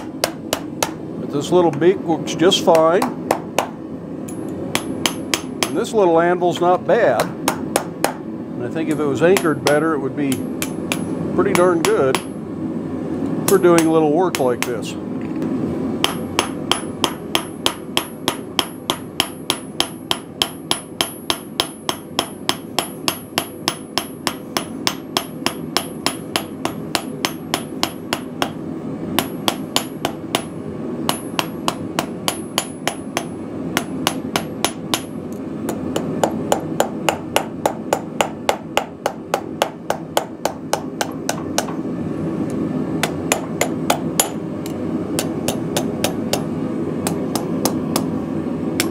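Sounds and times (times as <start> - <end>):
hammer striking hot steel on anvil: 0.0 - 1.0, 2.7 - 5.9, 7.2 - 8.2, 8.9 - 12.4, 13.5 - 14.9, 16.0 - 28.6, 29.2 - 41.8, 43.0 - 48.1.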